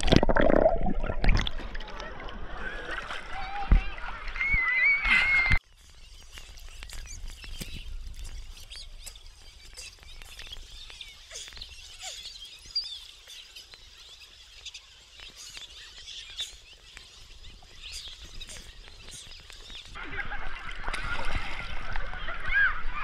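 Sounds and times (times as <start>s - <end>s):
bubbly chirps and clicks: 0.0s - 22.4s
water lapping and splashing: 0.0s - 23.0s.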